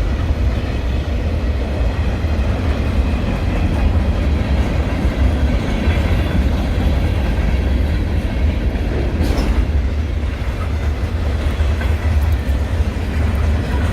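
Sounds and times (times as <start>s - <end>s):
deep train rumble: 0.0s - 13.9s
train wheels clattering on rails: 0.0s - 13.9s.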